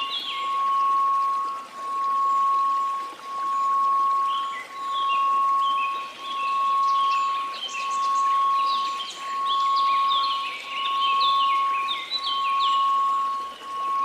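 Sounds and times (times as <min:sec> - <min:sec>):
faint white-noise hiss: 0:00.0 - 0:14.0
high tinkling wind chimes: 0:00.0 - 0:14.0
steady pure tone: 0:00.0 - 0:14.0.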